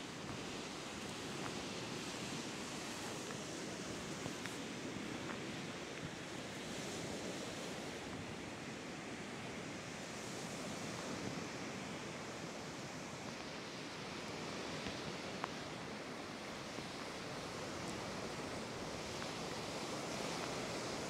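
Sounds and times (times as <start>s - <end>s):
light breeze: 0.0s - 21.0s
waves washing onto shore: 0.0s - 21.0s.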